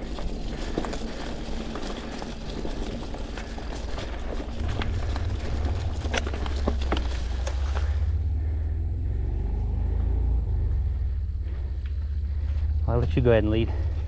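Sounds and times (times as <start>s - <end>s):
bike tyres crackling over dirt: 0.0s - 9.2s, 9.8s - 14.0s.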